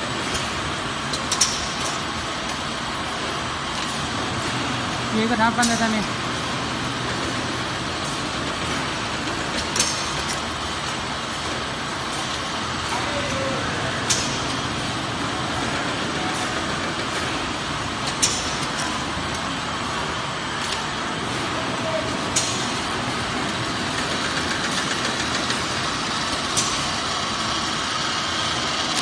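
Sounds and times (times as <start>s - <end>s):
machinery hum and hiss: 0.0s - 29.0s.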